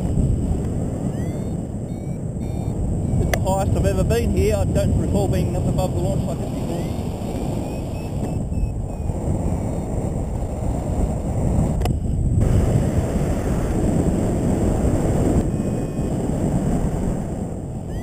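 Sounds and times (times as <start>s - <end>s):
wind roaring over microphone: 0.0s - 18.0s.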